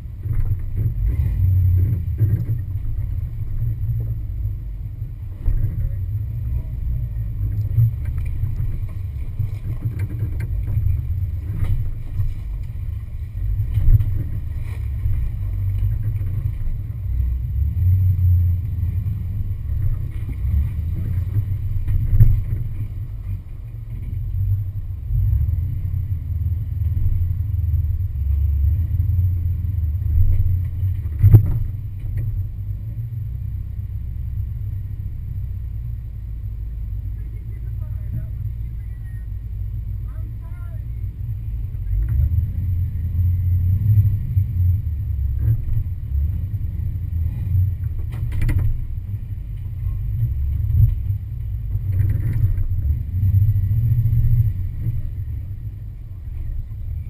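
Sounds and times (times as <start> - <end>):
car engine at low revs: 0.0 - 57.0.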